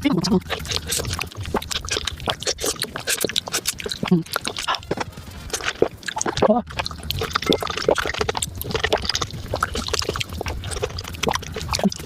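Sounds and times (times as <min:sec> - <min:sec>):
wet chewing and crunching fruit: 0:00.0 - 0:12.0.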